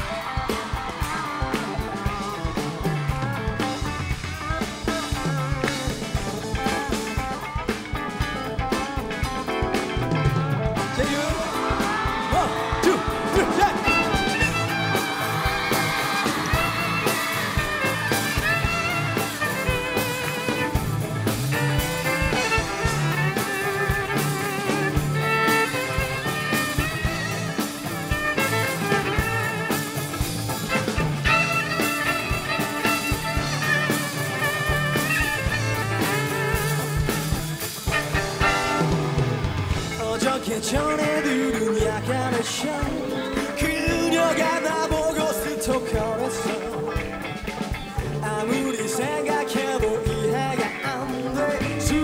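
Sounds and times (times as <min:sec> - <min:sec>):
live band instrumental: 0:00.0 - 0:52.0.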